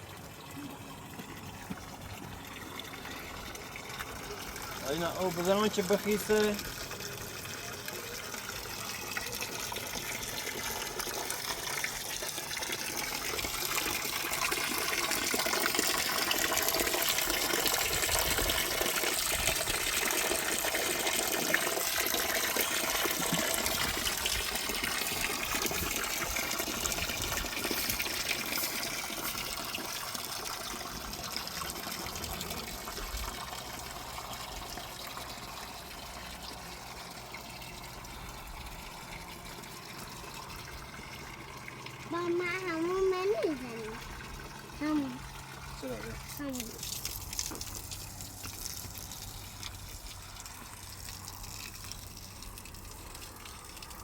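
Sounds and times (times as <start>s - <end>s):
water gushing and splashing: 0.0s - 54.0s.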